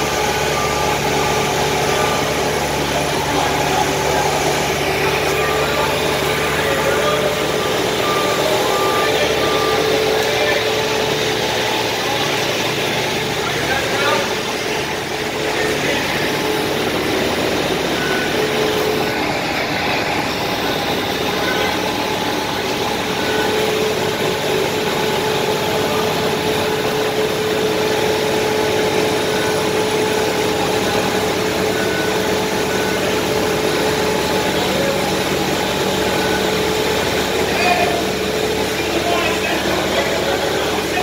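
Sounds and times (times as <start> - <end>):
heavy equipment engine running: 0.0 - 41.0.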